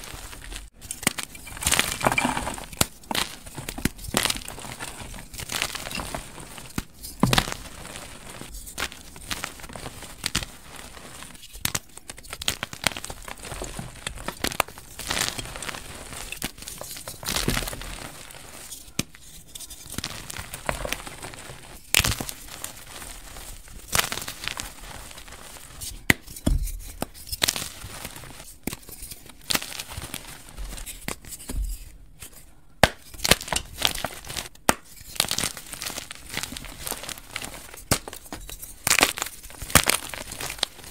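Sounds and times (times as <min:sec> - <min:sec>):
chalk crumbling: 0:00.0 - 0:40.9
chalk crunching and snapping: 0:00.0 - 0:40.9.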